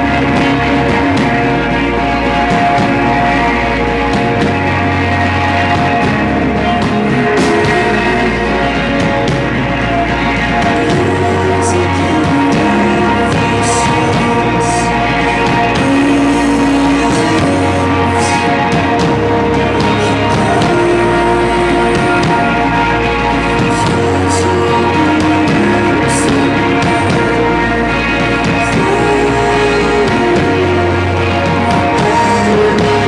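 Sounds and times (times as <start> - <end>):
bass line: 0.0 - 33.0
electric guitar chords: 0.0 - 33.0.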